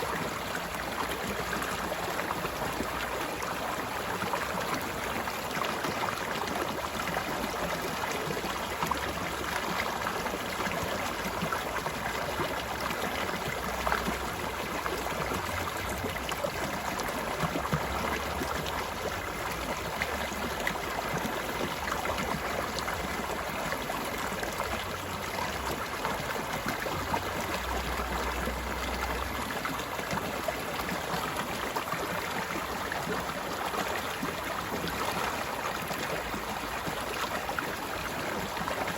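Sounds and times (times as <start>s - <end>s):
stream flowing with splashes: 0.0s - 38.9s.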